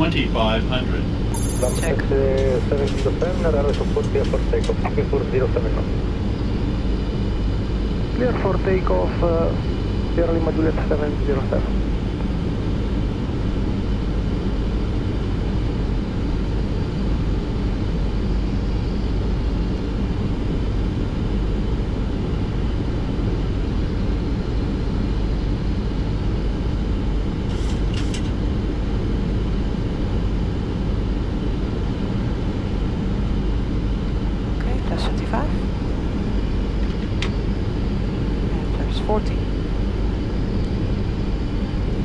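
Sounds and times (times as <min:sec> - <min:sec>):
airflow and engine rush: 0:00.0 - 0:42.0.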